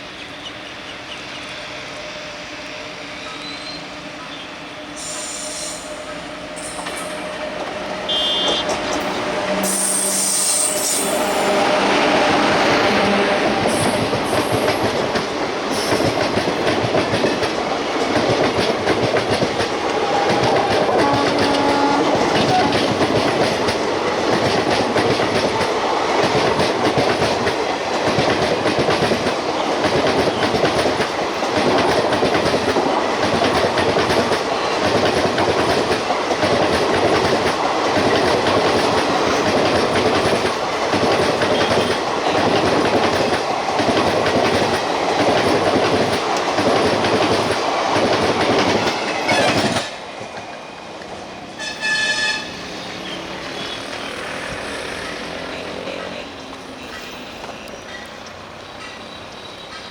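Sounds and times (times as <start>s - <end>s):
train passing: 0.0s - 59.9s
train wheels clattering on rails: 5.0s - 59.9s.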